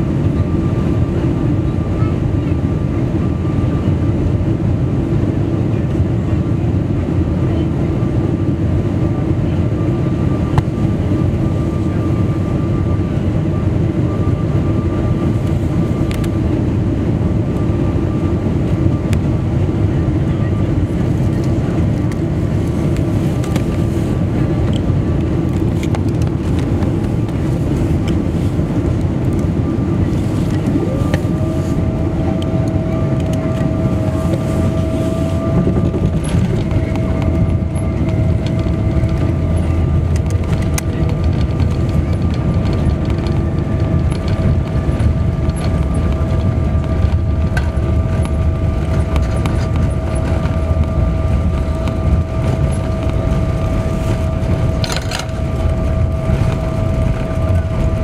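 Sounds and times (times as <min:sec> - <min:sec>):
engine roar and rushing air: 0:00.0 - 0:58.0
steady whine: 0:00.0 - 0:58.0.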